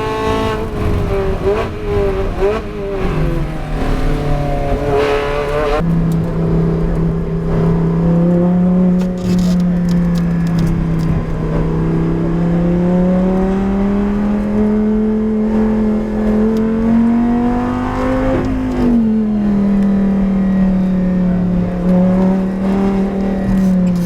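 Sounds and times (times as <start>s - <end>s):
race car engine under load: 0.0s - 24.0s.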